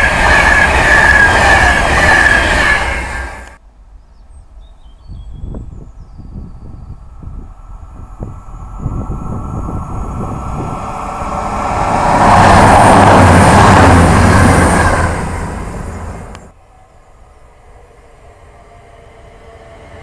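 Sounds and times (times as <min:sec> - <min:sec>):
train passing at speed: 0:00.0 - 0:04.8, 0:06.8 - 0:20.0.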